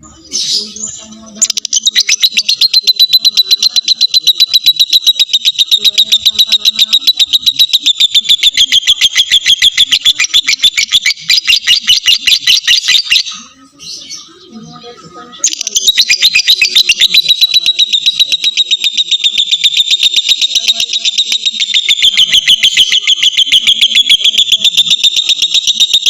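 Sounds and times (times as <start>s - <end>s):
bird chattering trill: 0.0s - 26.0s.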